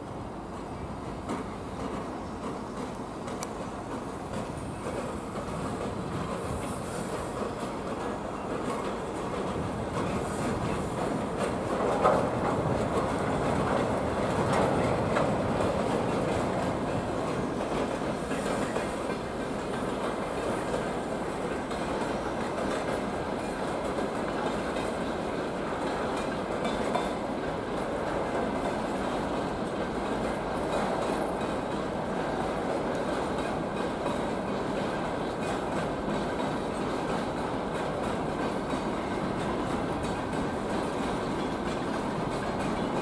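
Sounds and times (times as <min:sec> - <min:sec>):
train wheels on rails: 0:00.0 - 0:43.0.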